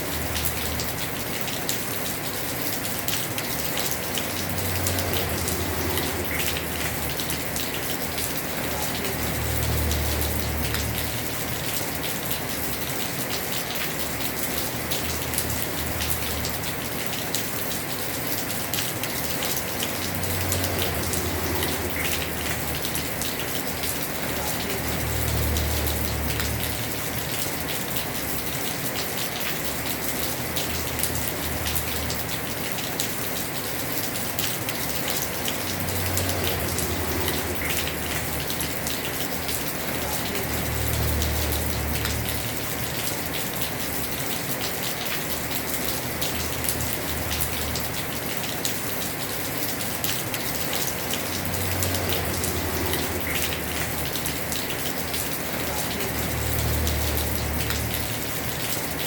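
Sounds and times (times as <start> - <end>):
heavy rain drumming on roof: 0.0 - 59.0.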